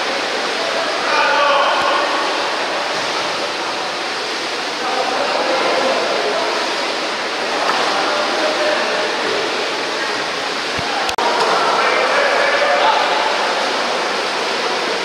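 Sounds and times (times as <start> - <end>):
faint voices: 0.0 - 15.0
water splashing in a pool: 0.0 - 15.0.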